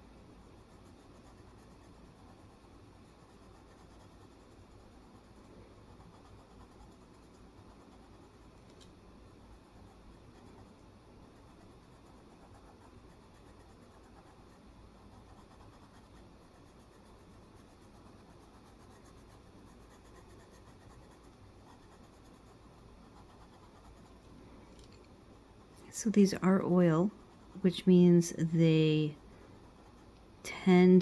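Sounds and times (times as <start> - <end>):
coloured pencil scratching on paper: 0.4 - 8.5, 9.2 - 24.2, 25.4 - 31.0.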